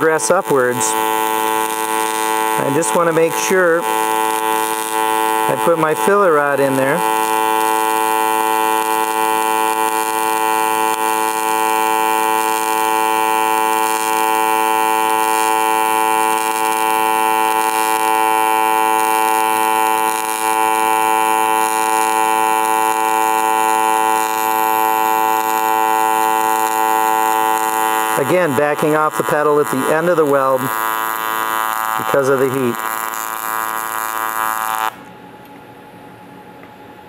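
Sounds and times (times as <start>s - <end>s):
welding arc buzzing: 0.0s - 35.2s.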